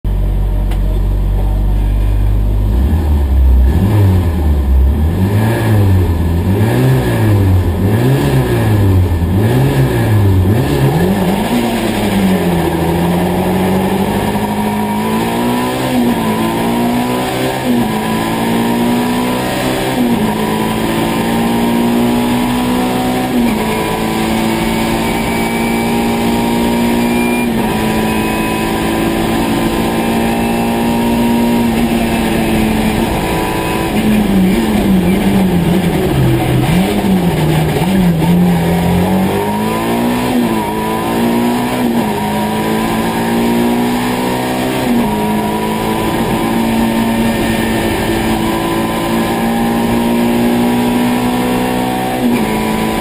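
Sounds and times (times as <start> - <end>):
rally car engine revving: 0.1 - 53.0.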